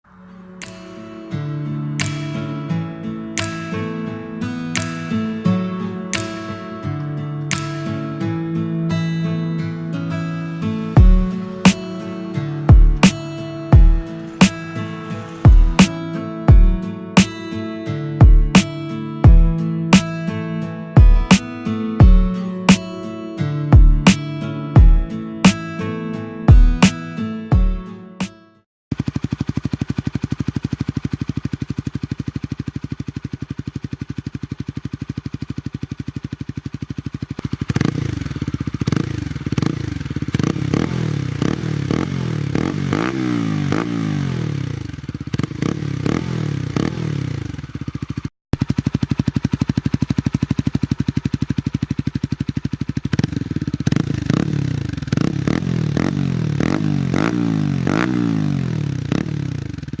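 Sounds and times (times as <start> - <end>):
motorcycle engine idling and revving: 0.6 - 28.3, 28.9 - 60.0.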